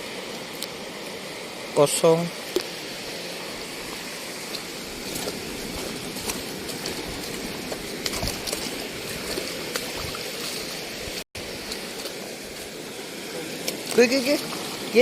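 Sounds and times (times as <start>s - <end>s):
seawater trickling over rocks: 0.1s - 15.0s.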